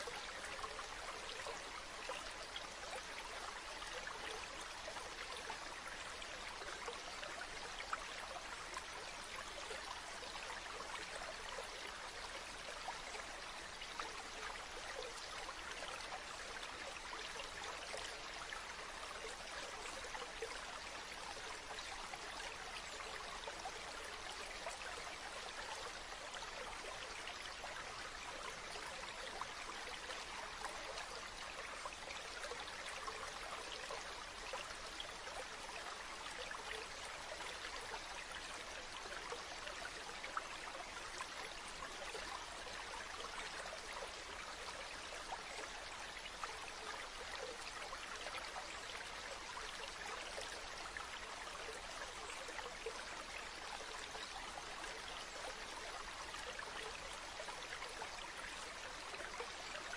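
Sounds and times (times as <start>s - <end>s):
stream water babbling: 0.0s - 59.9s.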